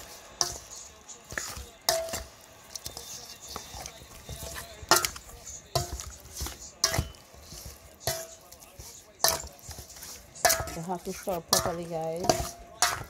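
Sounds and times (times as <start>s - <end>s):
metal spoon clinking in metal bowl: 0.0s - 13.0s.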